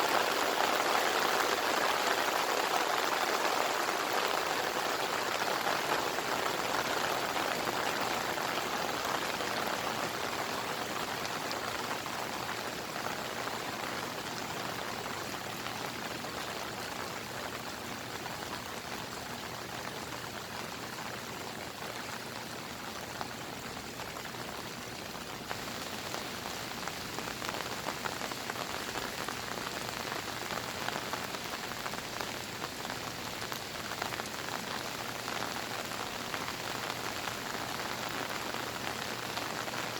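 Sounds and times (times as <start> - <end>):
rain falling: 0.0 - 39.9
raindrops striking a surface: 0.0 - 39.9.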